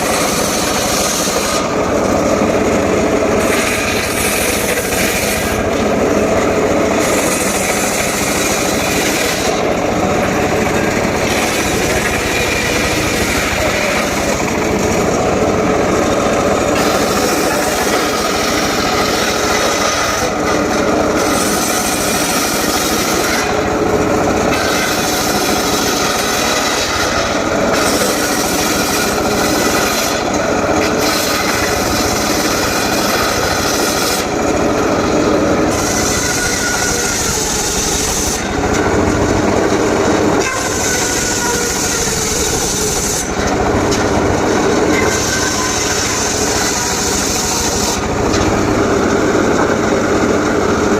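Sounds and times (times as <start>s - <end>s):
circular saw ripping wood: 0.0s - 49.7s.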